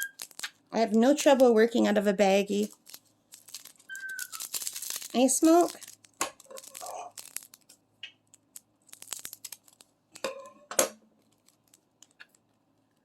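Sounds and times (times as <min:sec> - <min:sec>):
plastic bags tearing and crinkling: 0:00.0 - 0:01.6, 0:02.4 - 0:10.0, 0:11.2 - 0:12.5.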